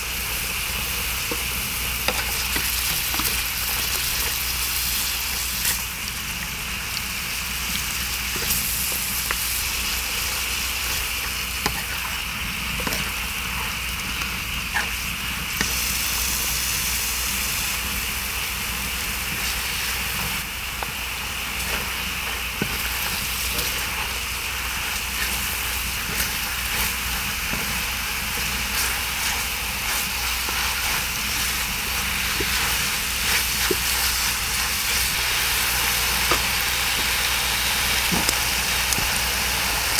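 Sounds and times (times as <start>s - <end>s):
pork sizzling: 0.0s - 39.9s.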